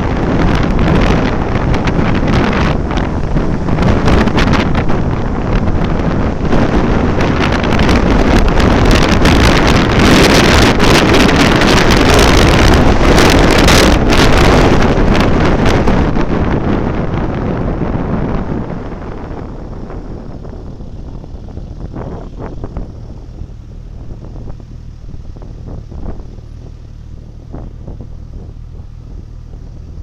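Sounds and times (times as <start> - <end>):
road noise: 0.0 - 30.0
vehicle engine: 0.0 - 30.0
wind buffeting microphone: 0.0 - 30.0.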